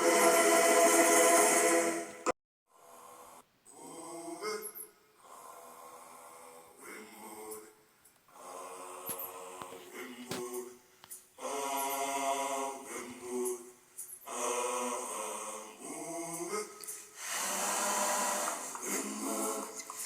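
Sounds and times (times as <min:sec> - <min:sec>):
voices singing unaccompanied: 0:00.0 - 0:20.0.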